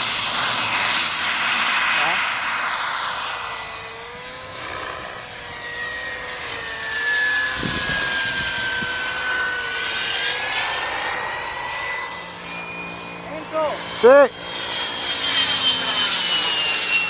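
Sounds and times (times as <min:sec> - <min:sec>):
model jet turbine whining: 0:00.0 - 0:17.0.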